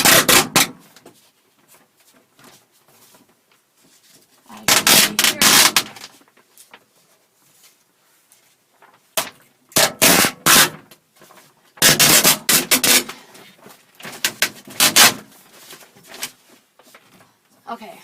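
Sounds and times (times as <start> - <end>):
clattering and rustling of parts: 0.0 - 17.6.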